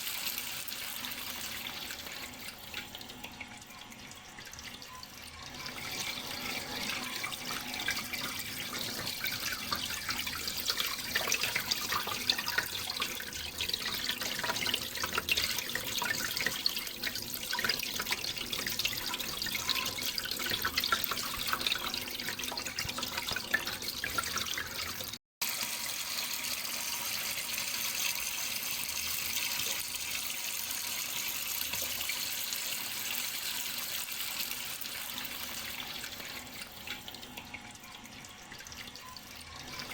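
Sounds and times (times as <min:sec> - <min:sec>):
water splashing trickle: 0:00.3 - 0:25.2, 0:31.6 - 0:39.9.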